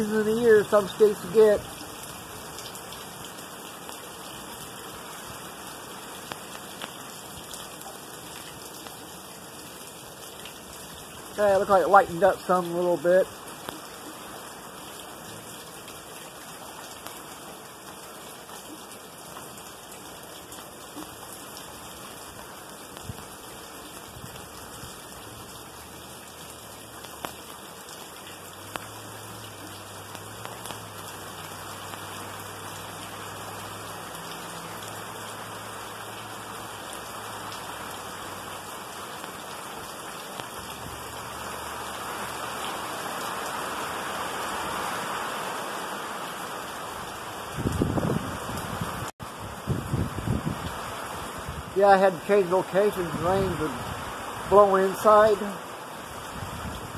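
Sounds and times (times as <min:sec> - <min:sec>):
light rain falling: 0:00.0 - 0:56.9
raindrops striking close by: 0:00.0 - 0:56.9.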